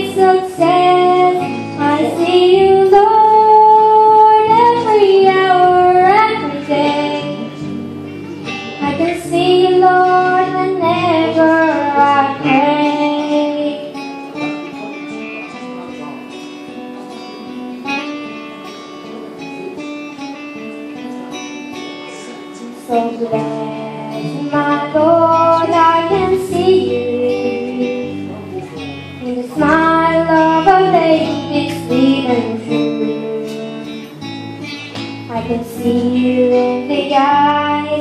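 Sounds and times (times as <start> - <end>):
acoustic guitar: 0.0 - 38.0
girl singing into microphone: 0.0 - 38.0.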